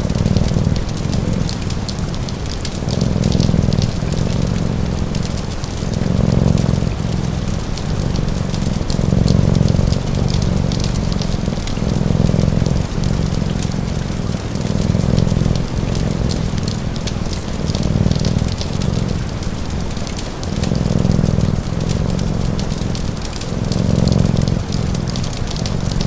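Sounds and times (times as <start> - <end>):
cat purring: 0.0 - 26.0
steady rain: 0.0 - 26.0
wood fire crackling: 0.0 - 26.0.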